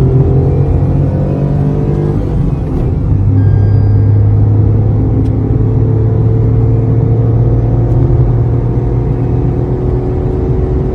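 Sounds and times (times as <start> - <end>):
car engine accelerating: 0.0 - 10.9.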